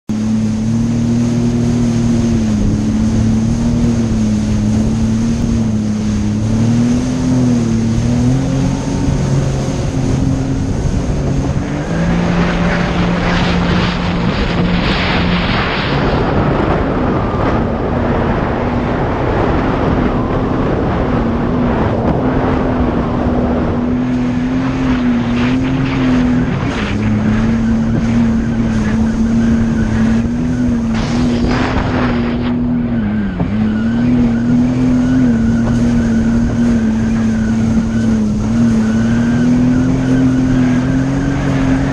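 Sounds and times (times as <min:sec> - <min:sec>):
jet ski engine running: 0:00.0 - 0:41.9
rushing water and wind: 0:00.0 - 0:41.9.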